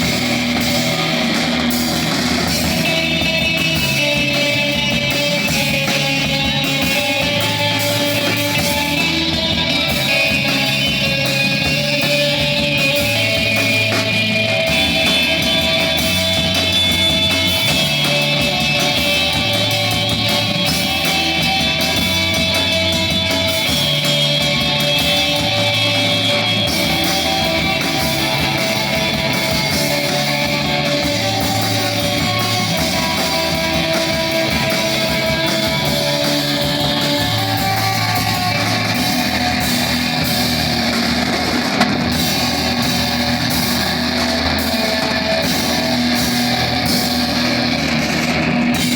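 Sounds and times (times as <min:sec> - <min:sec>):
electric guitars droning: 0:00.0 - 0:48.9
noise-rock band playing live: 0:00.0 - 0:48.9.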